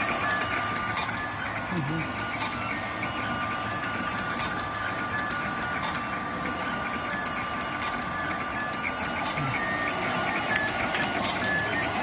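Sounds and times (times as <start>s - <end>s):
machine whine: 0.0s - 12.0s.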